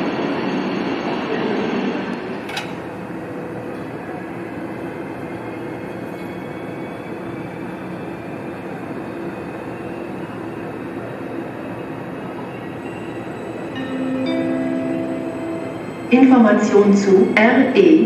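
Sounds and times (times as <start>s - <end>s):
faint low train tones: 0.0s - 18.0s
train running hum: 0.0s - 18.0s.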